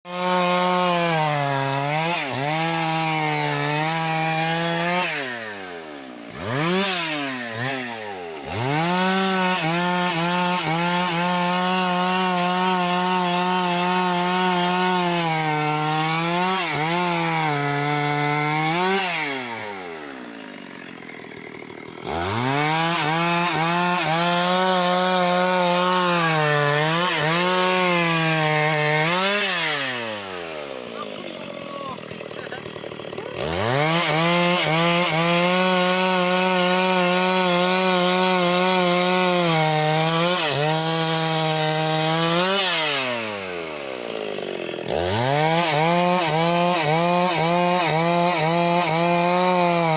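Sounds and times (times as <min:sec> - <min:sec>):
chainsaw cutting a tree: 0:00.0 - 0:49.9.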